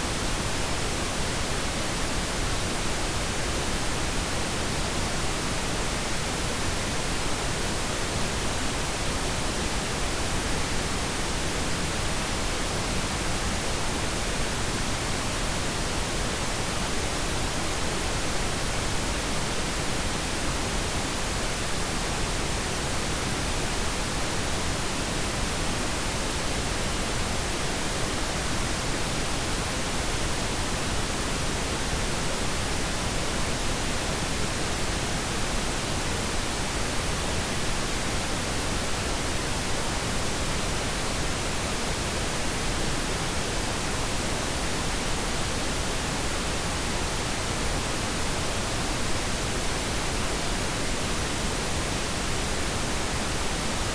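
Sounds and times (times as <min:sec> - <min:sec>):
pink noise hiss: 0:00.0 - 0:53.9.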